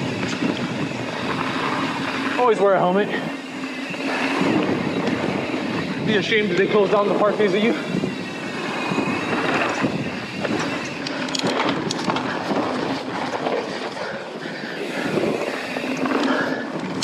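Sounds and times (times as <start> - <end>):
bike rattling: 0.0 - 17.0
bike tyres rumbling on dirt: 0.0 - 17.0.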